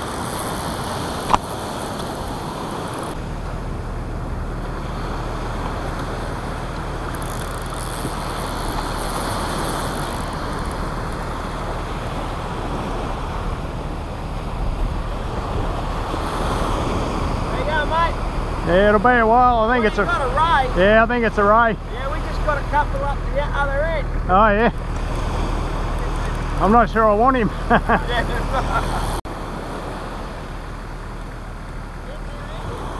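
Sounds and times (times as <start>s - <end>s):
wind buffeting microphone: 0.0s - 32.0s
surf washing: 0.0s - 32.9s
vehicle engine humming: 0.0s - 32.9s.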